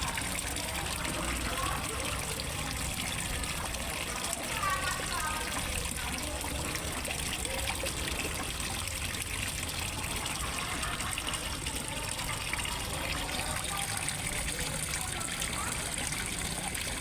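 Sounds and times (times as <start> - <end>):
waterfall pouring into pond: 0.0 - 17.0.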